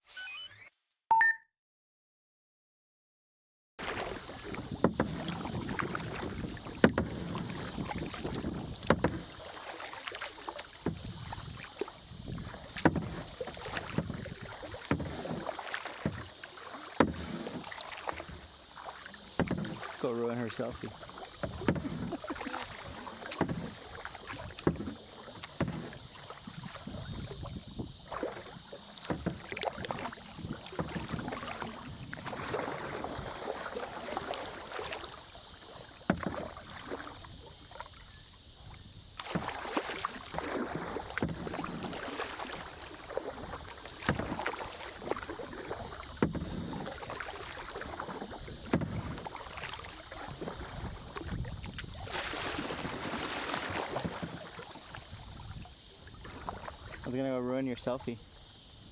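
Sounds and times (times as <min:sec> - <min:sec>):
paddle splashing in water: 0:03.8 - 0:58.9.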